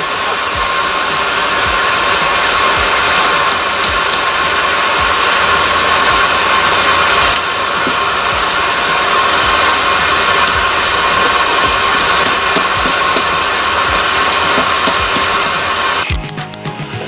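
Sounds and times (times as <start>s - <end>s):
air blower rushing: 0.0s - 17.0s.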